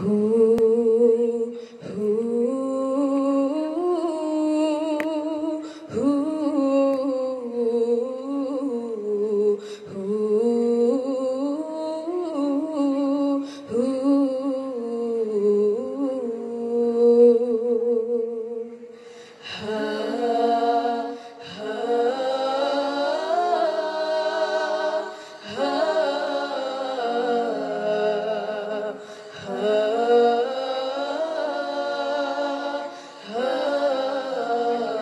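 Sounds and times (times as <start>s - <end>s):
women singing in harmony: 0.0s - 35.0s.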